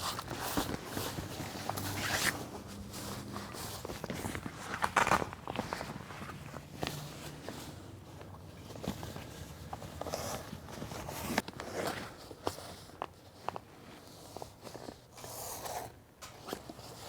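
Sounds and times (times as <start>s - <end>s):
fabric rustling: 0.0s - 15.0s.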